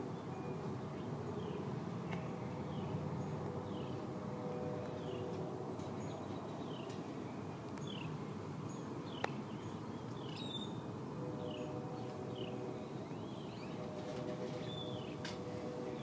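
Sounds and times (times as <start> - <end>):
distant city hum: 0.0 - 16.0.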